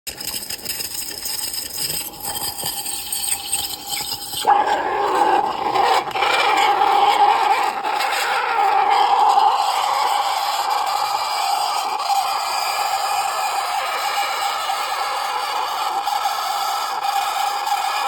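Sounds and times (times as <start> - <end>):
squealing tone: 1.1 - 18.0.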